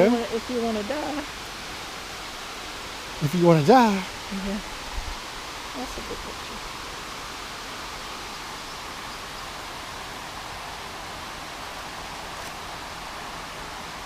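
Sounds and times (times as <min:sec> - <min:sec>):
water rushing down a spillway: 0:00.0 - 0:14.0.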